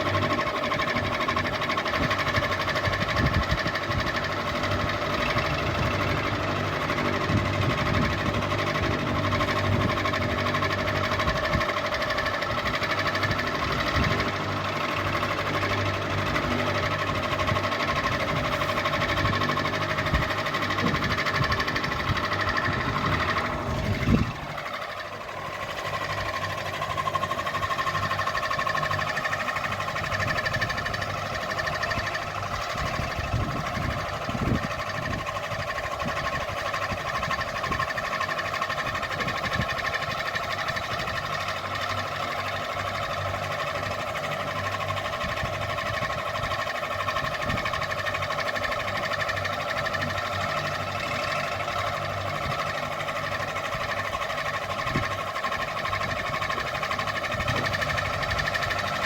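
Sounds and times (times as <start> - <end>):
ceiling fan motor hum: 0.0 - 59.0.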